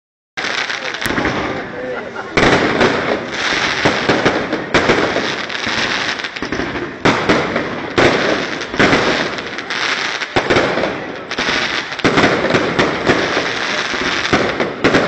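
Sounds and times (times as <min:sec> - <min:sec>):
crackle of sparks: 0:00.4 - 0:01.6, 0:02.4 - 0:15.0
firework bangs: 0:00.4 - 0:15.0.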